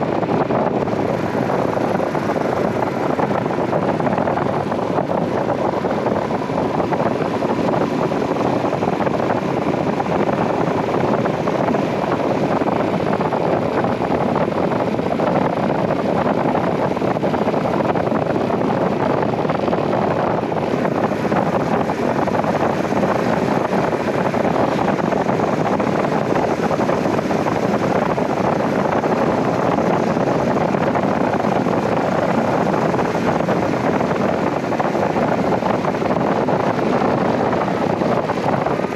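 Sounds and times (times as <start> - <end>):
motorcycle riding noise: 0.0 - 38.9
wind rushing over microphone: 0.0 - 38.9.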